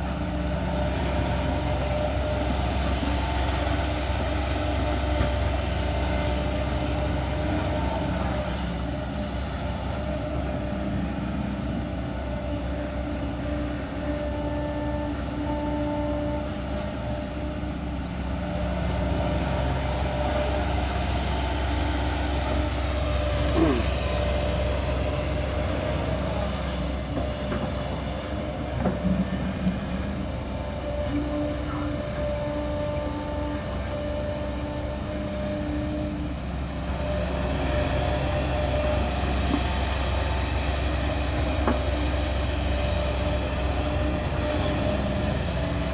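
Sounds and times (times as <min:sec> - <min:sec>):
excavator diesel engine drone: 0:00.0 - 0:45.9.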